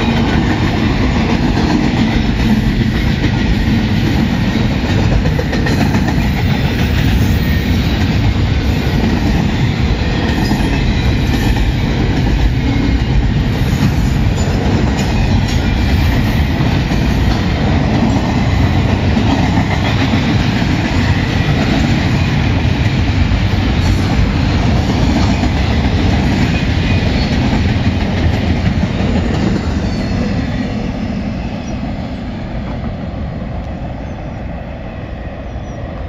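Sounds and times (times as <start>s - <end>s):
clickety-clack over rail joints: 0.0s - 30.8s
freight train wheels rumbling: 0.0s - 36.0s.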